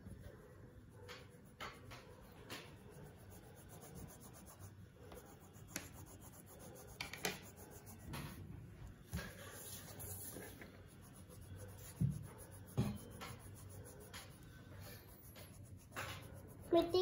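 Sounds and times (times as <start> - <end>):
colouring strokes on paper: 0.0 - 17.0.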